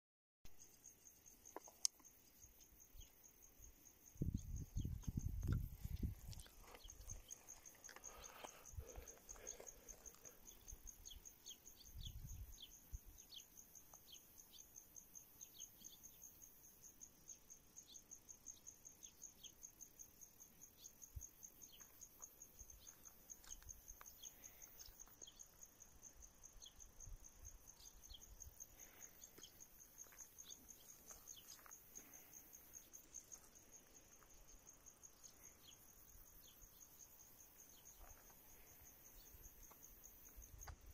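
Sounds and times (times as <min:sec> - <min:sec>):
crickets chirping: 0:00.5 - 0:40.9.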